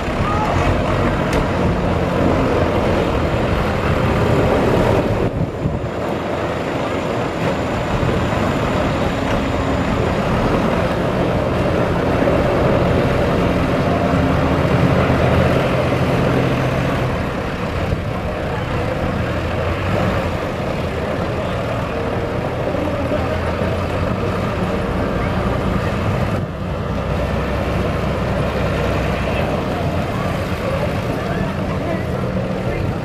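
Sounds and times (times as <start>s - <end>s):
tractor diesel engines: 0.0s - 33.0s.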